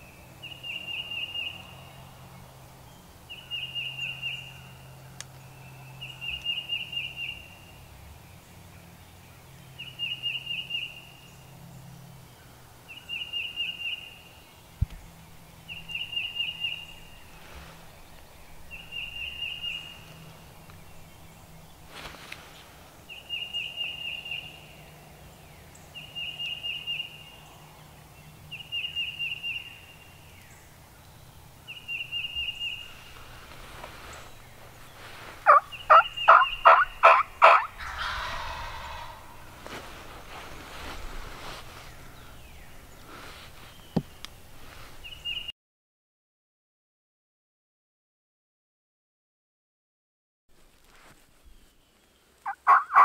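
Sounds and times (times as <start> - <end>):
outdoor background noise: 0.0 - 45.5, 50.5 - 53.0
songbird singing: 0.0 - 45.5, 50.7 - 53.0.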